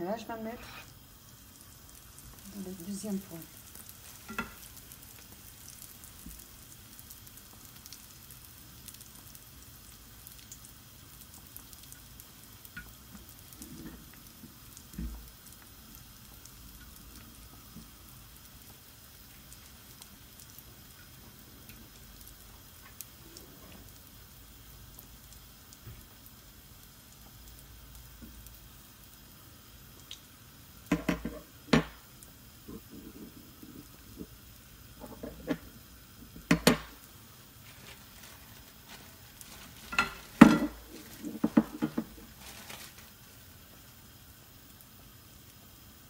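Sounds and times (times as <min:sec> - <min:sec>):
dough sizzling in hot oil: 0:00.0 - 0:46.0.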